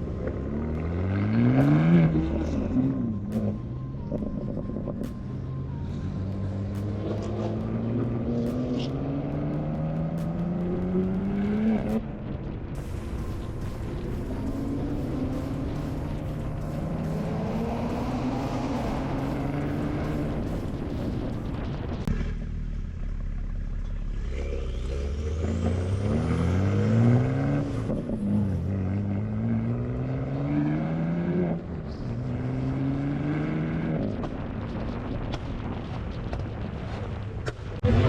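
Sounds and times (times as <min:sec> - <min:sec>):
car engine revving through gears: 0:00.0 - 0:12.1, 0:12.8 - 0:21.4, 0:24.1 - 0:34.3, 0:37.8 - 0:38.0.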